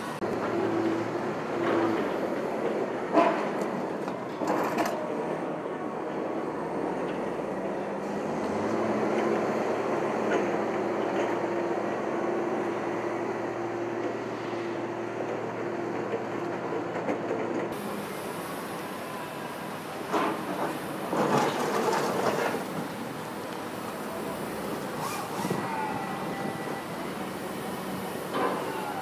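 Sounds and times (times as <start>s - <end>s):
diesel engine rumbling under load: 0.0s - 29.0s.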